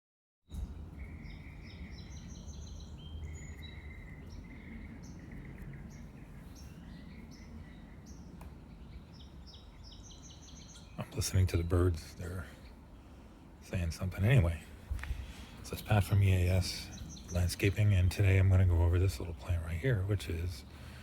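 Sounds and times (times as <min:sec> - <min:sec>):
birds chirping and calling: 0:00.5 - 0:21.0
low background rumble: 0:00.5 - 0:21.0.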